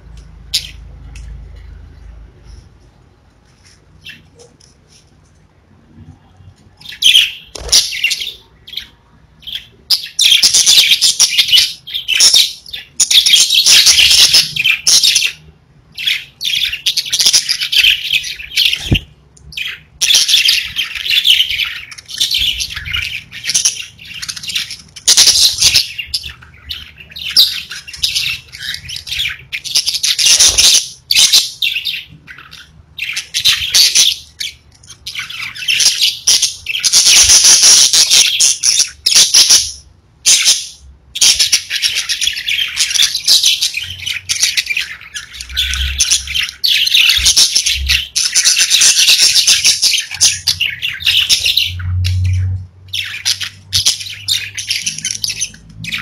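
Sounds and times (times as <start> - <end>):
budgerigars chirping: 0.5 - 0.9, 6.8 - 56.0.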